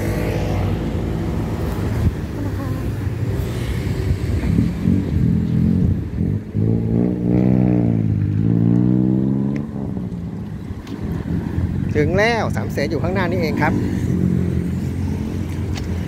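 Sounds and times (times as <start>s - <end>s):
low vehicle engine drone: 0.0s - 16.0s.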